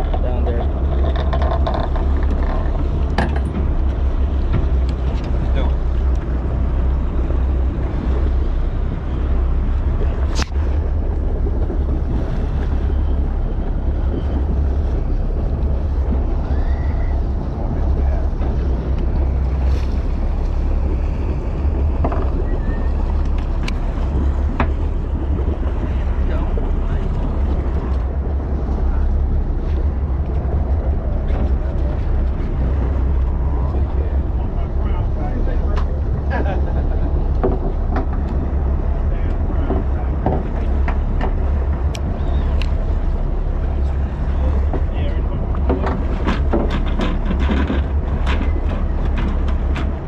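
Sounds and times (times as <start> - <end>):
boat engine rumble: 0.0 - 50.0.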